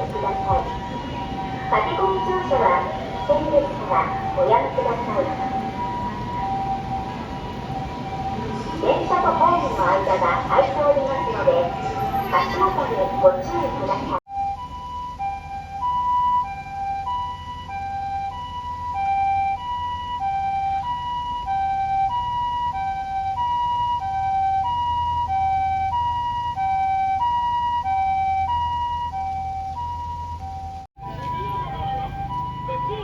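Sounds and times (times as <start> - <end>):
two-tone ambulance siren: 0.0 - 33.0.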